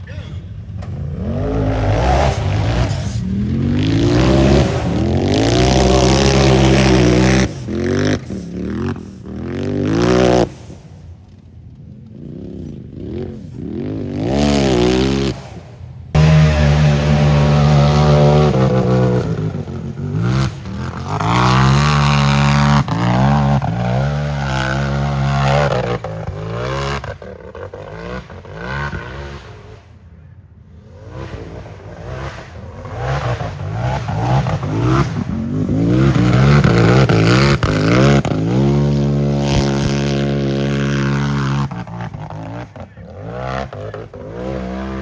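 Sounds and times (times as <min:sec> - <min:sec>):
race vehicle engine revving: 0:00.0 - 0:11.4, 0:12.2 - 0:45.0.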